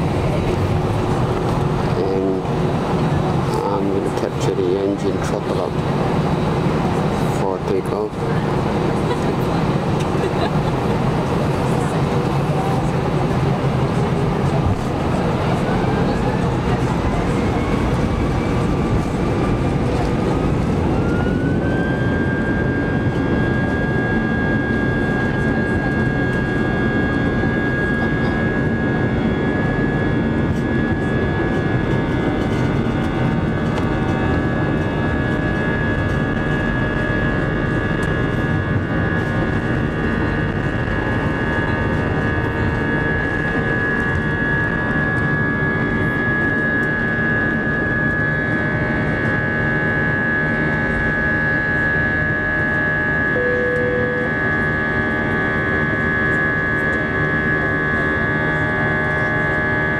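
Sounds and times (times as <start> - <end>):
high engine whine: 0.0 - 59.9
jet engines at high thrust: 0.0 - 59.9.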